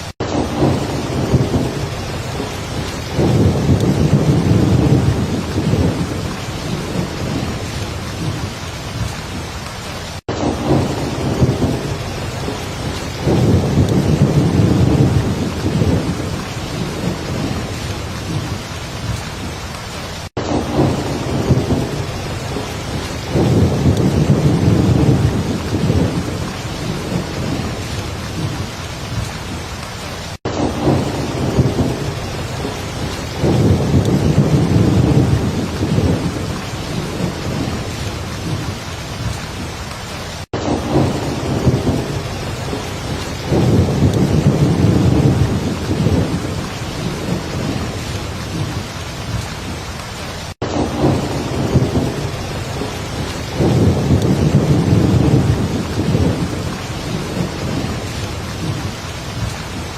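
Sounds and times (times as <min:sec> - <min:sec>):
rolling thunder: 0:00.0 - 0:09.5, 0:10.2 - 0:19.6, 0:20.4 - 0:49.8, 0:50.6 - 0:59.9
heavy rain: 0:00.0 - 0:59.9.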